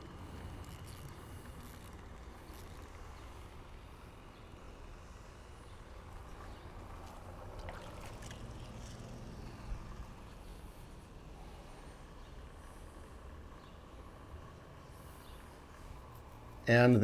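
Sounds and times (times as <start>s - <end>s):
light water noise: 0.0s - 16.6s.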